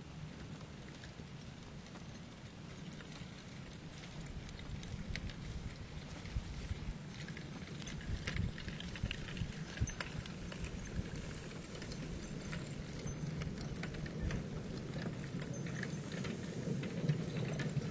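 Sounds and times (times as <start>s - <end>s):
cart rumbling over dirt: 0.0s - 17.9s
hooves clopping on soil: 0.0s - 17.9s
tire drag scraping dirt: 0.0s - 17.9s.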